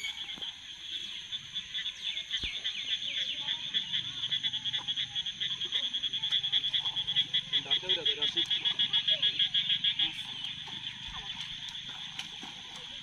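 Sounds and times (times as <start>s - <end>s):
frogs chorus: 0.0s - 13.0s.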